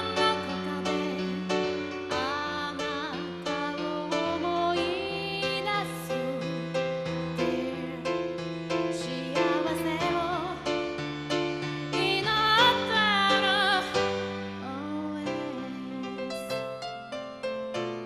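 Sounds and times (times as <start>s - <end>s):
woman singing: 0.0s - 10.9s, 11.9s - 16.9s
keyboard piano chords: 0.0s - 18.0s.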